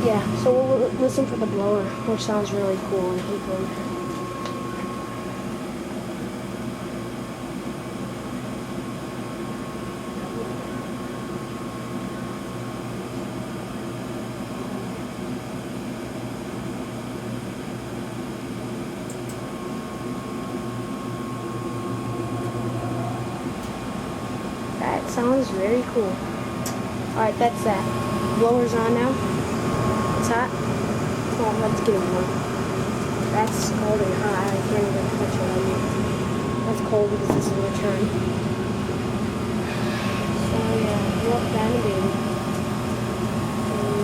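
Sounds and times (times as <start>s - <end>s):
blower low hum: 0.0s - 44.0s
furnace fan and burners humming: 0.0s - 44.0s.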